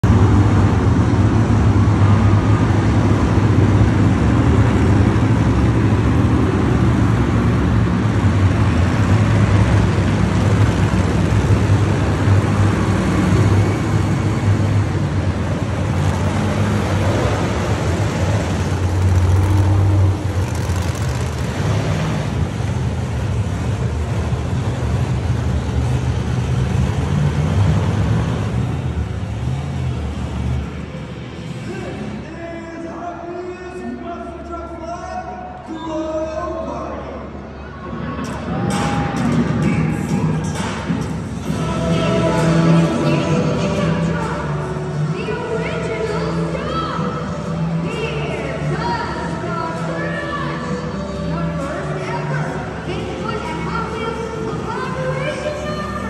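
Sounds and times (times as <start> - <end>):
monster truck engines rumbling: 0.0 - 56.0.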